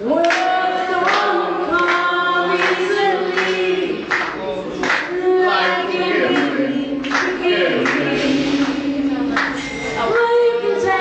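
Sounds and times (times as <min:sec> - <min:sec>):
group of voices singing: 0:00.0 - 0:11.0.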